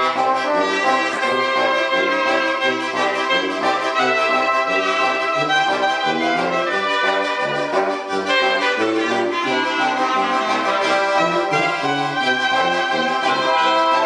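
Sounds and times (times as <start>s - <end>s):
brass instruments playing melody: 0.0s - 14.0s.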